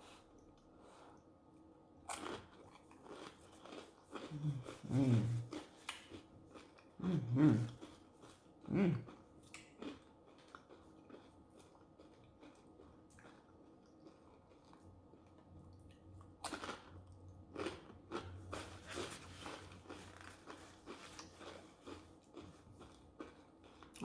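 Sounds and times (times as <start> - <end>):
crunchy chewing of chips: 2.0 - 24.0.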